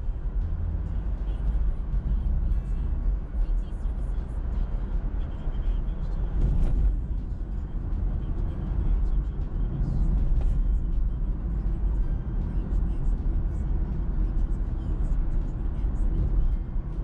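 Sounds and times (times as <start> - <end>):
car tyre and engine rumble: 0.0 - 17.0.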